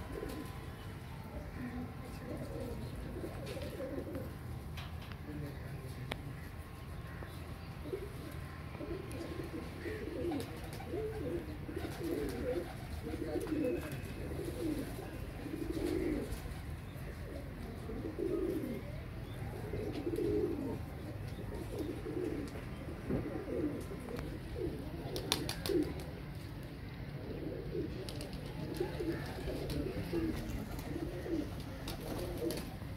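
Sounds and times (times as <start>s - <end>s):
pigeons cooing: 0.0s - 32.9s.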